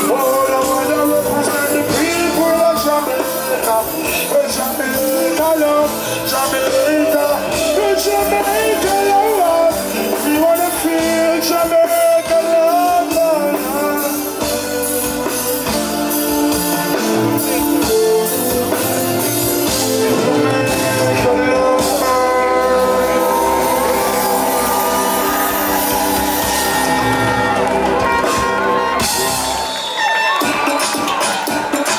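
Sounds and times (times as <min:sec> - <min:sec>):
person singing: 0:00.0 - 0:28.8
live reggae band: 0:00.0 - 0:31.9.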